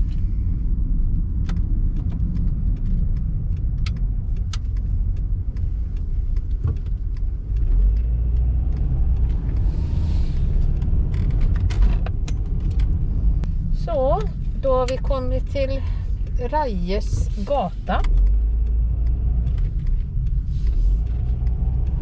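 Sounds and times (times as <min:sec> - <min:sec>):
car road noise rumble: 0:00.0 - 0:22.0.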